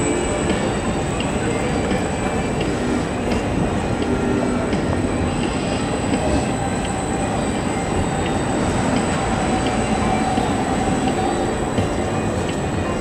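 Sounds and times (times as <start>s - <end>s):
tram wheels rolling on rails: 0.0s - 13.0s.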